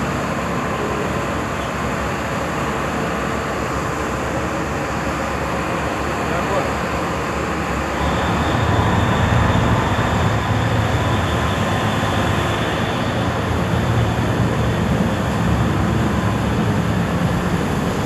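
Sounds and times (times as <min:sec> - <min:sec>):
low rumble of ship engines: 0:00.0 - 0:18.0
dense rushing noise: 0:02.0 - 0:18.0.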